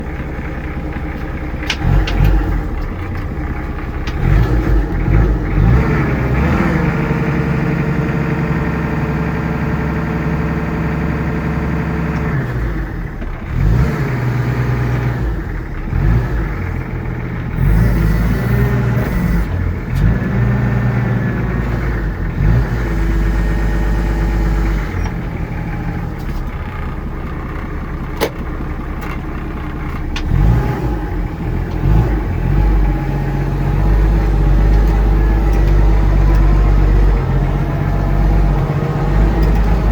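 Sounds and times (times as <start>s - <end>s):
forklift diesel engine revving: 0.0s - 39.9s.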